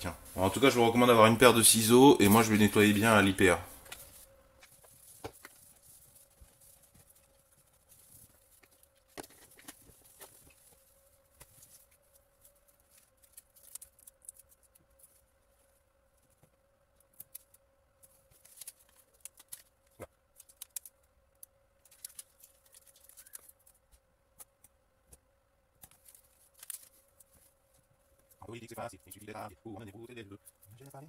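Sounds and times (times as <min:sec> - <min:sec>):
faint steady hum: 0:00.0 - 0:31.0
paper and plastic crinkling: 0:00.2 - 0:16.5, 0:17.1 - 0:23.9, 0:25.8 - 0:31.0.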